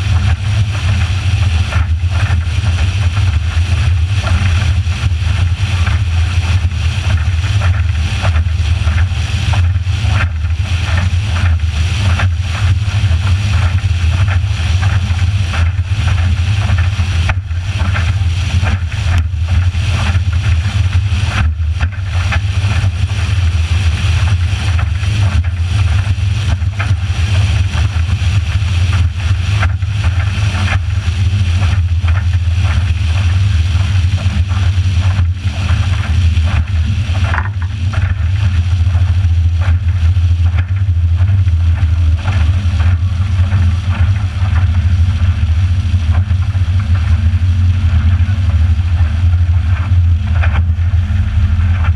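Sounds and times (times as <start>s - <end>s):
motorboat engine drone: 0.0s - 51.9s
water noise: 0.0s - 51.9s.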